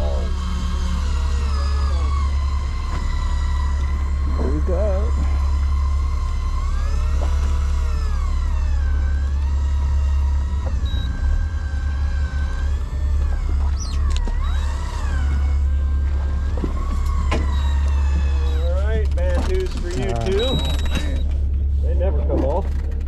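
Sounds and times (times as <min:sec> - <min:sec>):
electric fishing reel motor whining: 0:00.0 - 0:21.6
steady low hum: 0:00.0 - 0:23.0.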